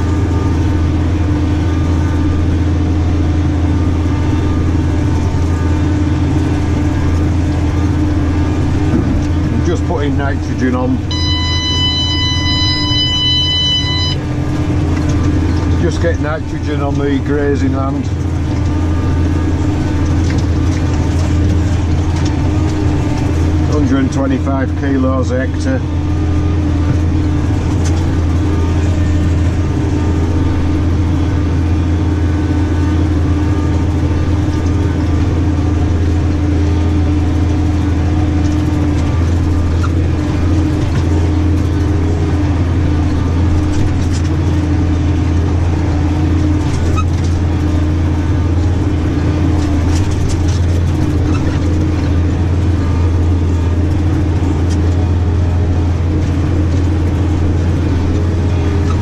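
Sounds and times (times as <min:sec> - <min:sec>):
tractor diesel engine drone: 0:00.0 - 0:59.0.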